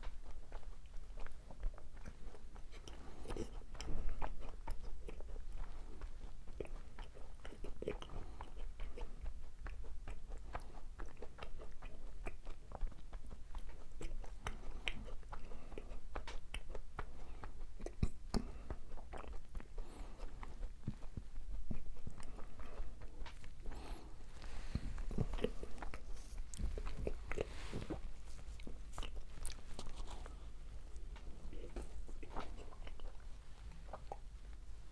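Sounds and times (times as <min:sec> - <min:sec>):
crunchy chewing: 0:00.0 - 0:34.9.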